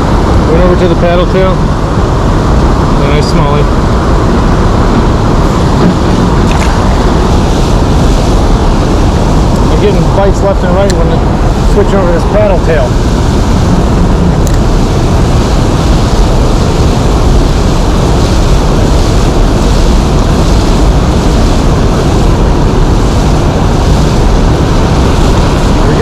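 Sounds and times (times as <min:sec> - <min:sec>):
river current rushing: 0:02.2 - 0:26.0.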